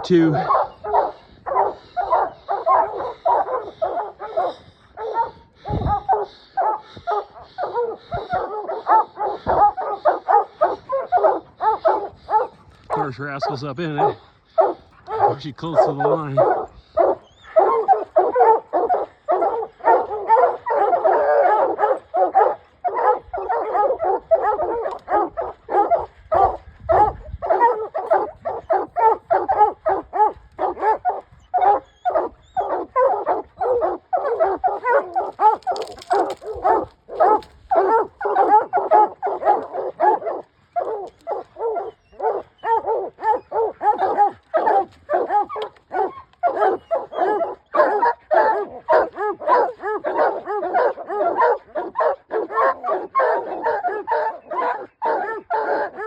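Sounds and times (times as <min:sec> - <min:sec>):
hounds barking: 0:00.0 - 0:56.0.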